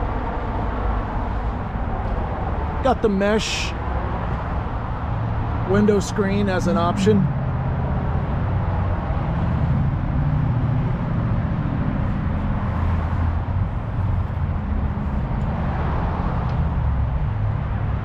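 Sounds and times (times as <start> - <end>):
vehicle engine rumble: 0.0 - 17.6
outdoor background noise: 0.0 - 18.0.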